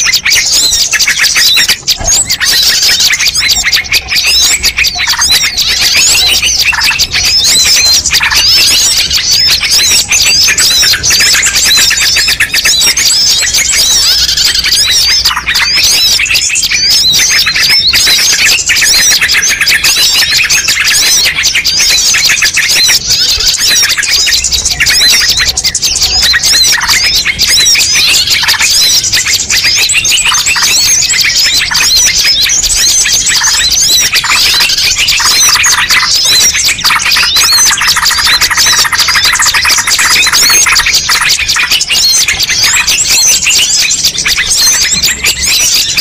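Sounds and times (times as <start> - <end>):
small birds chirping and squawking: 0.0 - 46.0.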